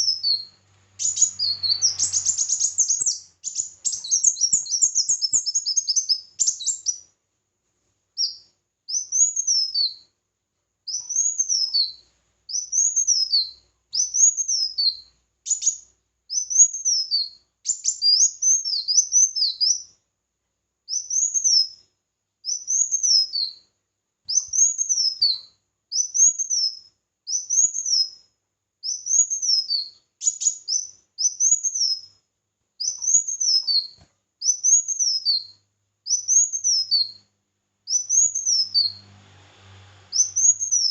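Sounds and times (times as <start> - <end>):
songbird singing: 0.0 - 7.1, 8.2 - 10.1, 10.9 - 19.9, 20.9 - 21.8, 22.4 - 23.6, 24.3 - 28.2, 28.8 - 32.2, 32.8 - 37.3, 37.9 - 39.1, 40.1 - 40.9.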